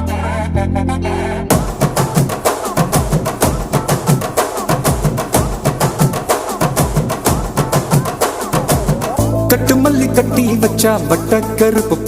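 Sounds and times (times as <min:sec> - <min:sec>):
fast steady drumming: 0:01.5 - 0:12.0.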